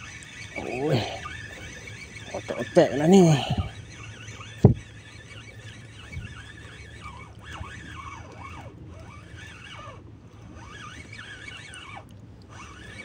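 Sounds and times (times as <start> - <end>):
fishing reel being cranked: 0.0 - 13.0.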